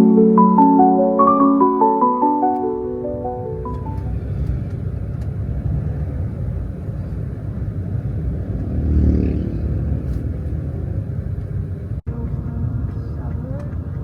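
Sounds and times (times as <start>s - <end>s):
low rumble of traffic: 0.0s - 14.0s
vehicle passing close: 2.3s - 14.0s.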